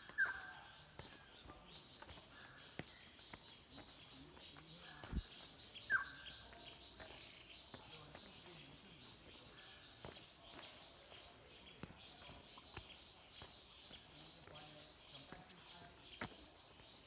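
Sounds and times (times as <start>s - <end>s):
footsteps on wet trail: 0.0s - 17.0s
high bird chirp: 0.0s - 17.0s.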